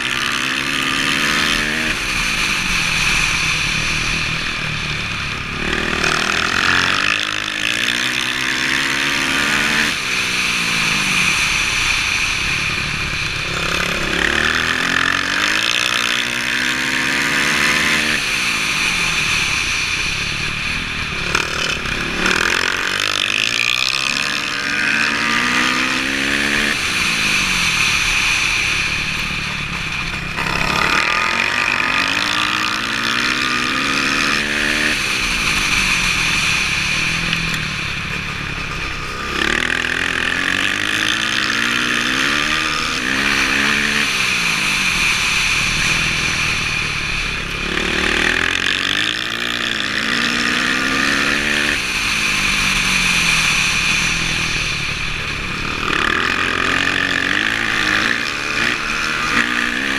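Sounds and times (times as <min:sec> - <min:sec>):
dirt bike engine accelerating: 0:00.0 - 0:59.9.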